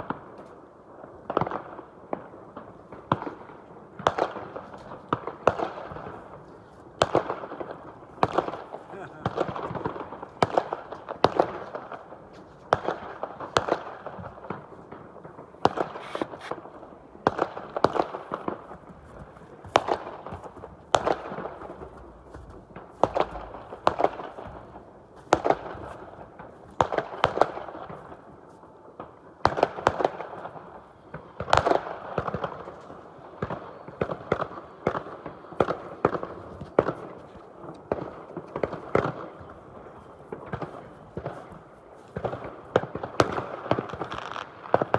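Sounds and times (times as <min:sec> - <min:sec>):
fireworks bangs: 0:01.2 - 0:28.3, 0:29.0 - 0:44.9.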